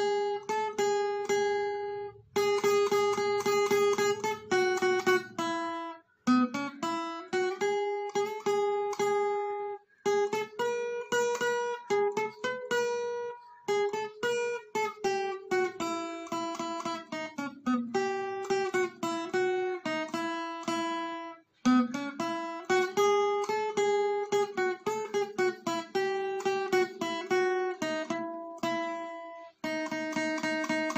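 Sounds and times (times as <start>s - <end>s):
plucked acoustic guitar melody: 0.0s - 30.9s.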